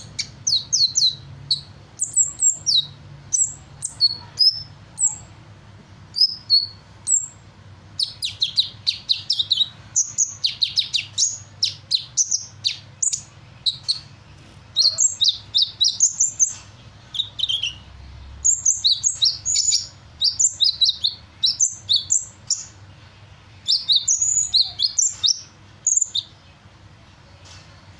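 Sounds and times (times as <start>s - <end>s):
bird singing rapid high chirps: 0.0s - 27.9s.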